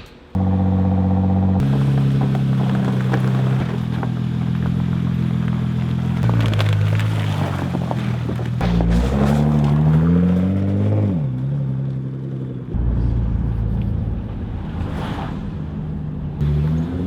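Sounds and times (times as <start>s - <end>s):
car engine running: 0.4s - 15.0s.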